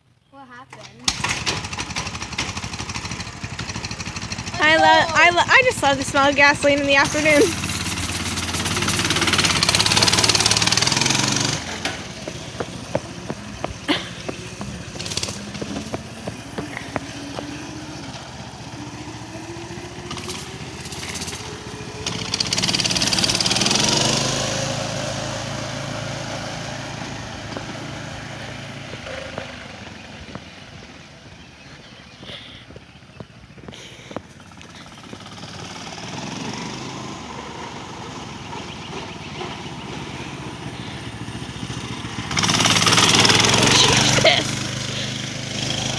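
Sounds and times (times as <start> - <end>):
mini bike engine passing: 0.3 - 45.9.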